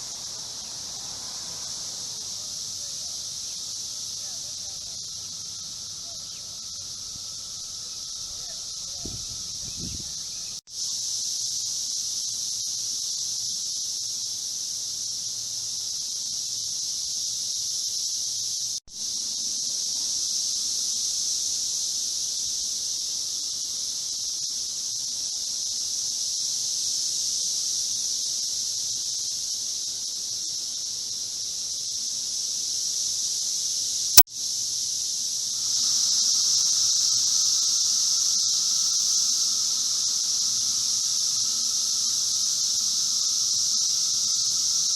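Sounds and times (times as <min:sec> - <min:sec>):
cicadas droning: 0:00.0 - 0:44.9.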